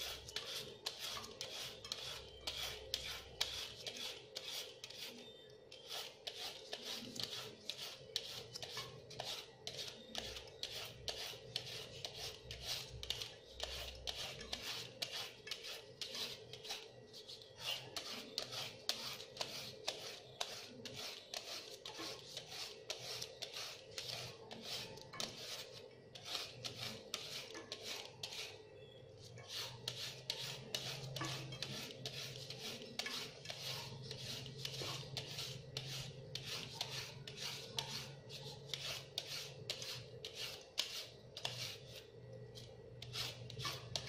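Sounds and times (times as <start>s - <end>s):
peeler rasping on carrot: 0.0s - 44.0s.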